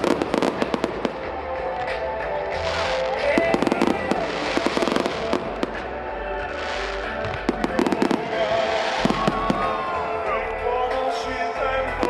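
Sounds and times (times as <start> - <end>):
fireworks bangs and crackling: 0.0 - 10.3
music playing: 0.0 - 12.0.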